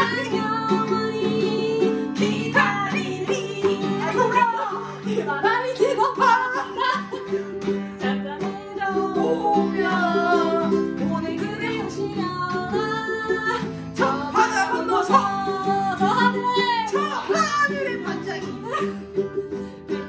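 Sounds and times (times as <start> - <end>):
acoustic guitar strummed: 0.0 - 20.0
ukulele strummed: 0.0 - 20.0
woman singing: 0.0 - 20.0.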